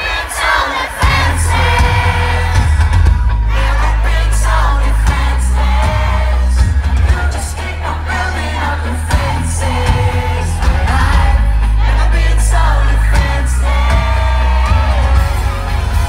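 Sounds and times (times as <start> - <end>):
person singing: 0.0 - 16.0
live rock band playing: 1.0 - 16.0.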